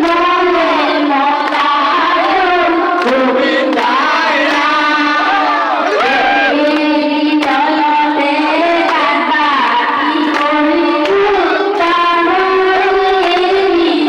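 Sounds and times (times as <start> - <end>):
woman singing: 0.0 - 14.0.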